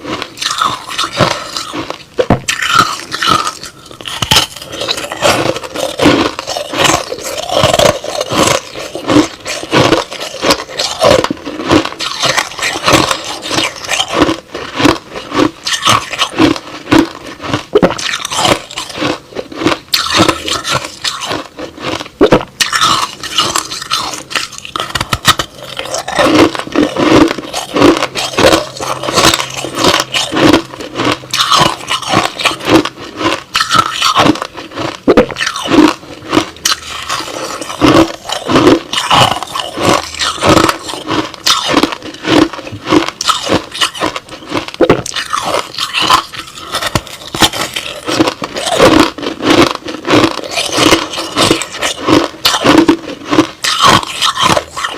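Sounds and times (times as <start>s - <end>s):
person chewing crushed ice: 0.0s - 54.9s.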